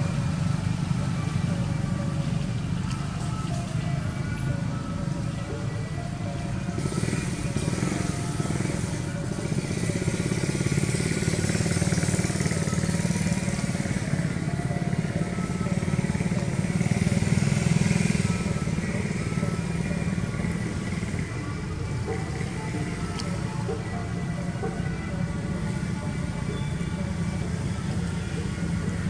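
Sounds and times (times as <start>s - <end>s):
motor engine running: 0.0s - 29.0s
music: 0.0s - 29.0s.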